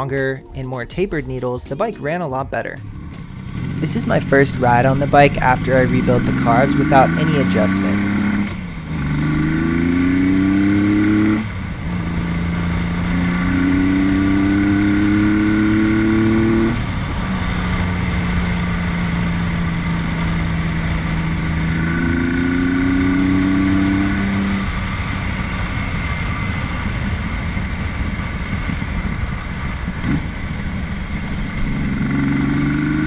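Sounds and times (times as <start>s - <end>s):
motorcycle engine accelerating: 1.5s - 33.0s.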